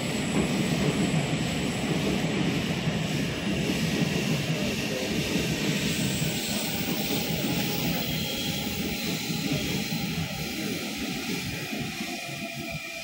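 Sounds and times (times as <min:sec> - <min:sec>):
train roaring through tunnel: 0:00.0 - 0:13.0.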